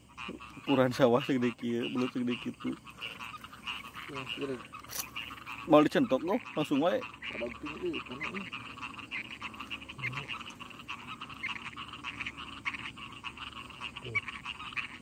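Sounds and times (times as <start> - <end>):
frogs calling: 0.0 - 15.0.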